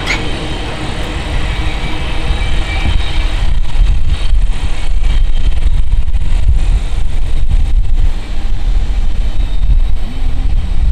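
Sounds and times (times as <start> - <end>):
train rumbling on track: 0.0 - 10.9.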